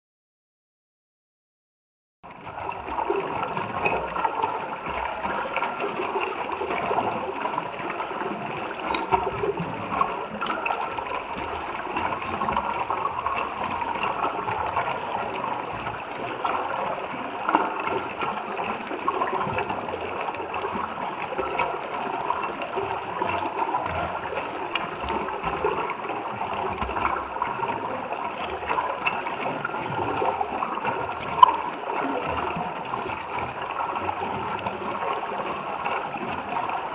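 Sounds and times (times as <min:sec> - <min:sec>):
stream water bubbling: 0:02.2 - 0:36.9.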